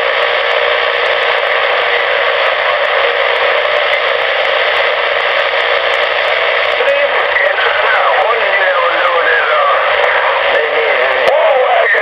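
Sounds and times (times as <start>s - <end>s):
radio static hissing: 0.0s - 12.0s.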